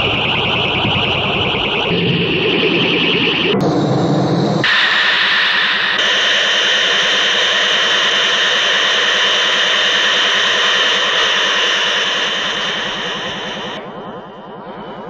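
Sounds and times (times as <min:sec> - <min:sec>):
hissing roar with high whine: 0:00.0 - 0:14.9.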